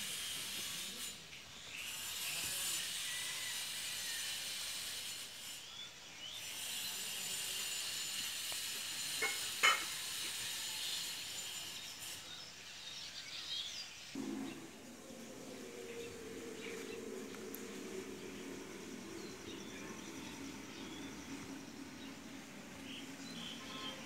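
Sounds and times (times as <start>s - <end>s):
steady high-pitched hiss: 0.0s - 24.0s.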